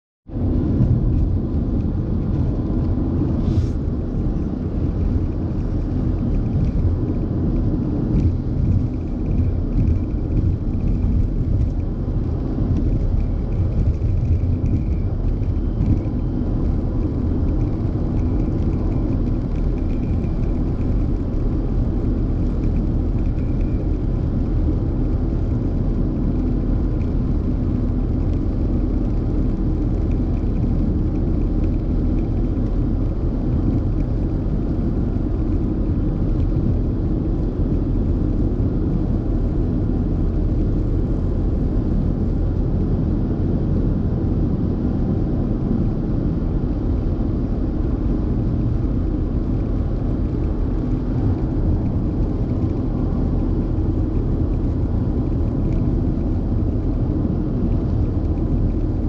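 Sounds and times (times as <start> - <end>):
car cabin road noise: 0.3 - 59.0.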